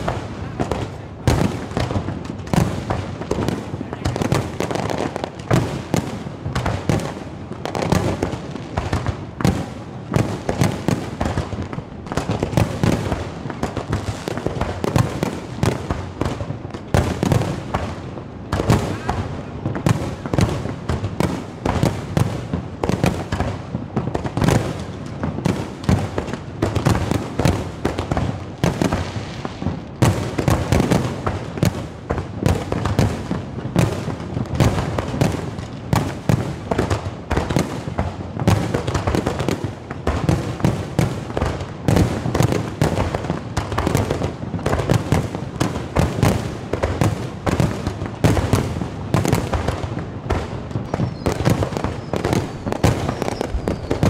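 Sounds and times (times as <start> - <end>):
fireworks bursting with bangs and crackles: 0.0 - 54.0.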